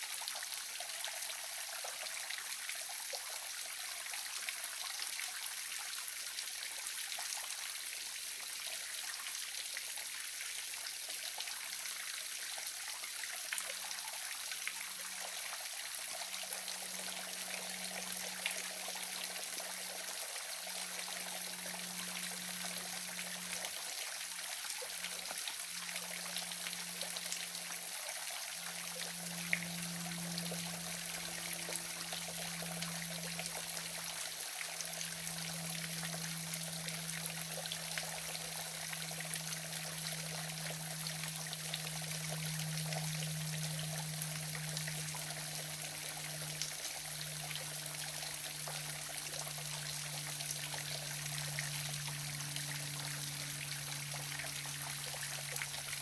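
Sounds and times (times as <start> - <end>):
faint low hum: 10.8 - 56.0.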